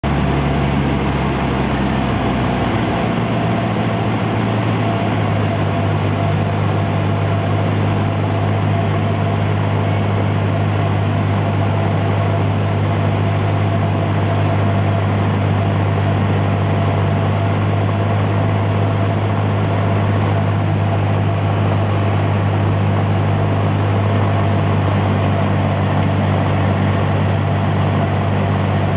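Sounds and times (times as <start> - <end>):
propeller plane engine droning: 0.0 - 28.9.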